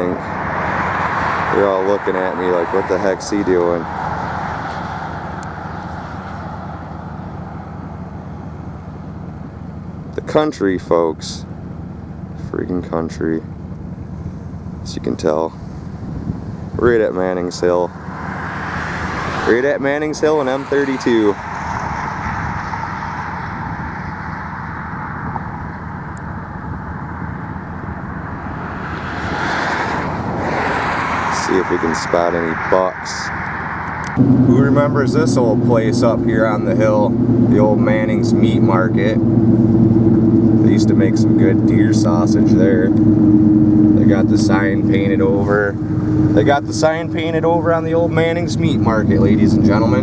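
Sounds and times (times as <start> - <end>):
truck engine and road rumble: 0.0 - 50.0.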